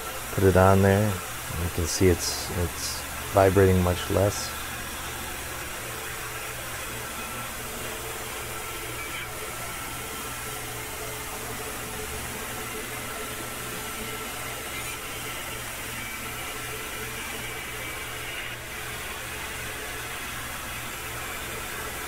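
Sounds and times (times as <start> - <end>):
milling machine spindle whirring: 0.0 - 22.0.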